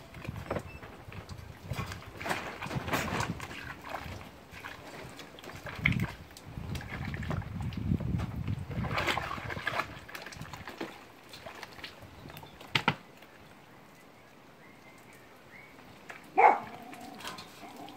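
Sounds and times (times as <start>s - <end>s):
water splashing in plastic tub: 0.0s - 13.4s, 15.9s - 17.9s.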